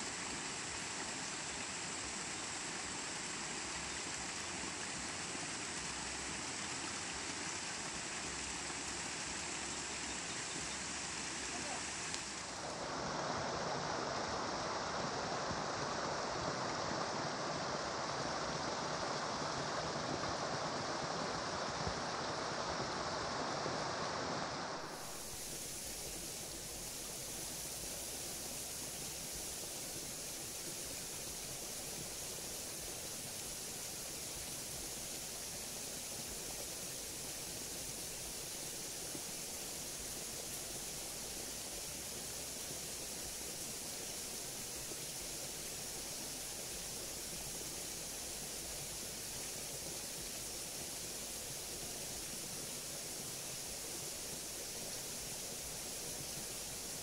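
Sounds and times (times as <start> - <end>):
outdoor hiss: 0.0 - 57.0
stream running: 0.0 - 57.0.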